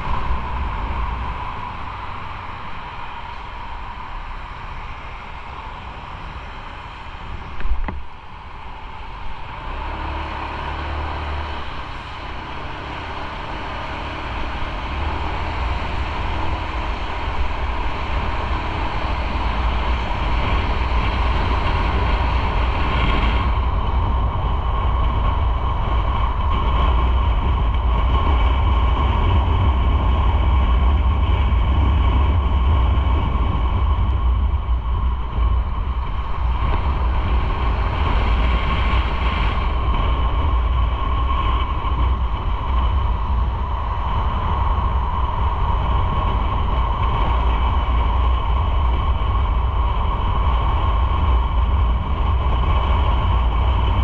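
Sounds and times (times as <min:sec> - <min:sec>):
motorcycle engine: 0:00.0 - 0:54.0
wind noise on microphone: 0:00.0 - 0:54.0.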